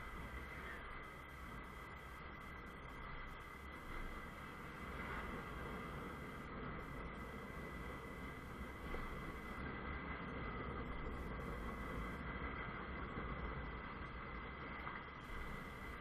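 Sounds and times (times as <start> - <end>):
faint high whine: 0.0 - 16.0
wind and road noise: 0.0 - 16.0.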